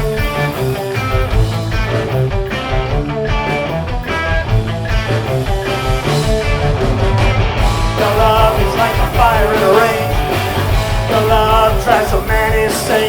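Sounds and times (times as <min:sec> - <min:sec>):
electric guitar: 0:00.0 - 0:13.0
rock band playing live: 0:00.0 - 0:13.0.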